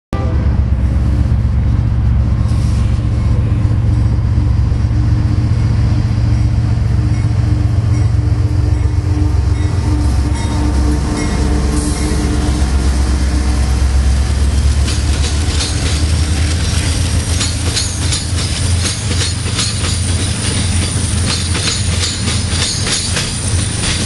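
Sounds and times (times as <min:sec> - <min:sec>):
freight train diesel engines rumbling: 0:00.1 - 0:24.0.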